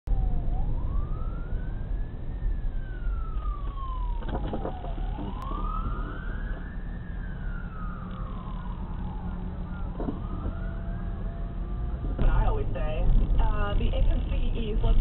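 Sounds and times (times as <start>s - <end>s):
road and engine rumble: 0.0s - 15.0s
fire truck siren wailing: 0.1s - 12.7s.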